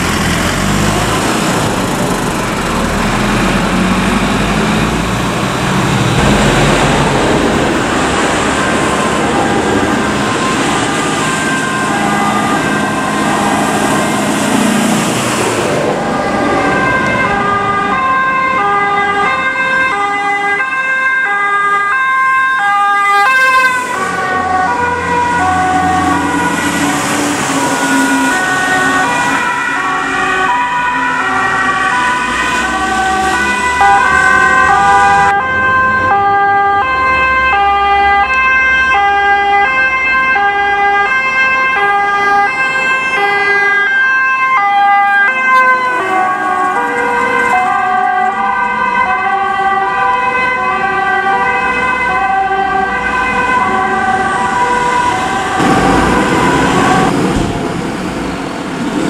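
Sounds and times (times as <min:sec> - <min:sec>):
two-tone fire engine siren: 0:00.0 - 0:59.0
vehicle engine and road noise: 0:00.0 - 0:59.0.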